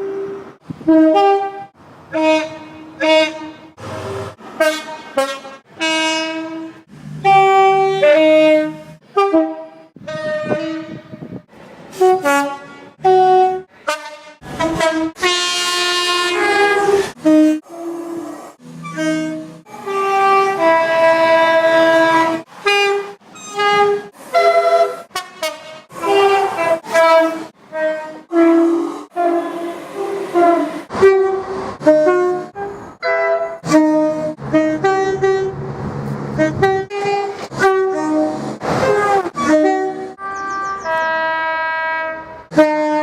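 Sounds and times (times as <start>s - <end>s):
train two-tone horn blasts: 0.0s - 43.0s.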